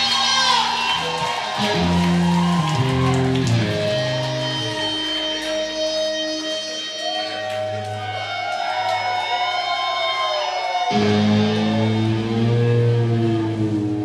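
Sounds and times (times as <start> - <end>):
electric guitar ringing notes: 0.0 - 9.1, 10.6 - 14.0
live rock band playing: 0.0 - 9.6, 10.6 - 14.0.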